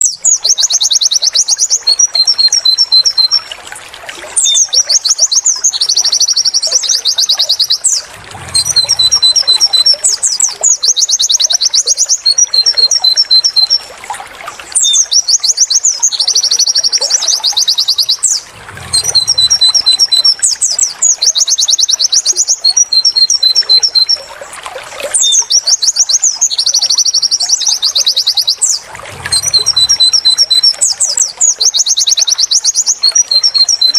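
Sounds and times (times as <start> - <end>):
bird chirping and trilling: 0.0 - 3.5, 4.4 - 13.9, 14.5 - 24.3, 25.0 - 33.9.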